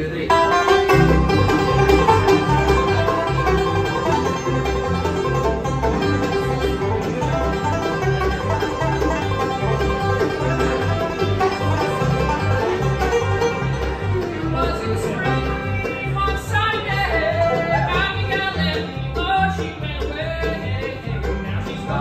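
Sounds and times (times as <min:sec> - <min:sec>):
guitar and string instruments: 0:00.0 - 0:22.0
rapid banjo picking: 0:00.0 - 0:22.0
steady bass line: 0:00.1 - 0:22.0.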